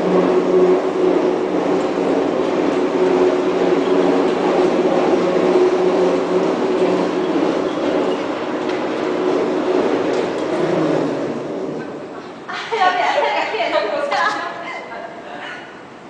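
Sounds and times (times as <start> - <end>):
industrial machinery humming: 0.0 - 16.0.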